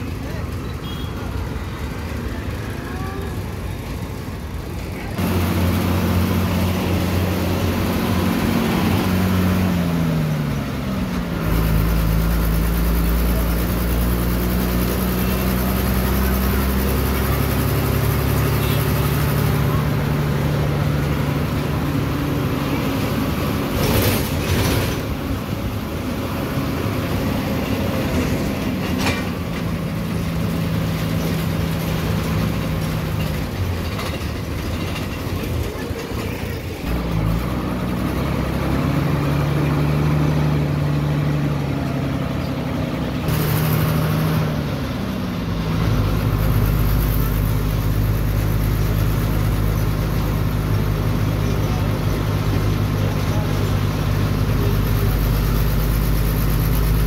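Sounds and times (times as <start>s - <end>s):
bus engine humming: 0.0s - 57.0s
road rumble: 0.0s - 57.0s.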